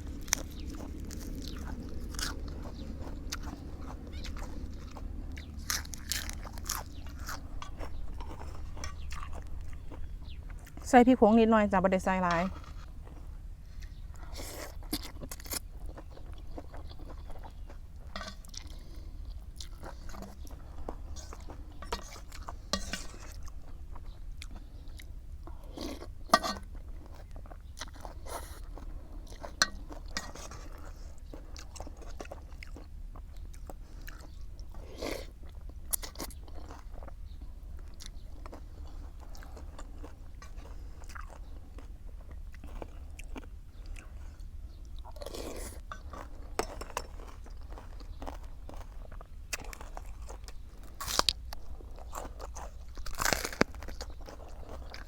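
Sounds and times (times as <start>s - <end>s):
chewing crisp food: 0.0s - 55.0s
steady low hum: 0.0s - 55.0s.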